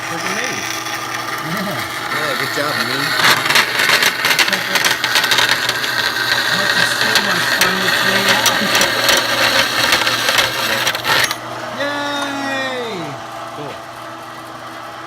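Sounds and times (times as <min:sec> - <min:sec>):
band saw cutting: 0:00.0 - 0:14.8.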